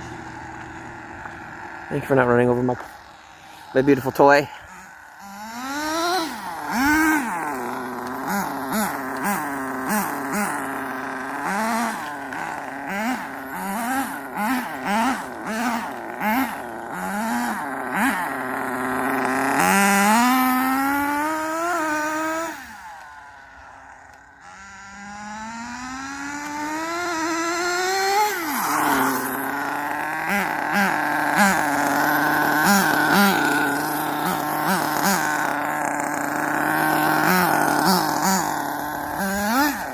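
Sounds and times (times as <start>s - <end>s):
remote control car motor whine: 2.8s - 39.9s.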